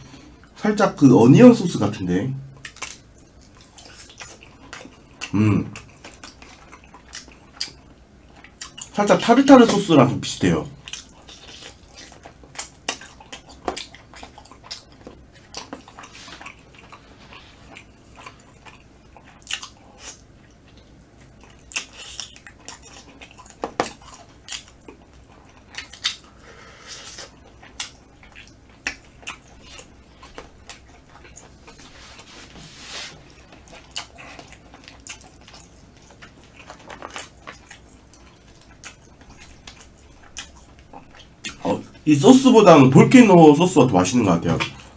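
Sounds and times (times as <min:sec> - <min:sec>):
close chewing with lip smacks: 0:02.5 - 0:09.9, 0:10.7 - 0:42.1, 0:44.4 - 0:44.9.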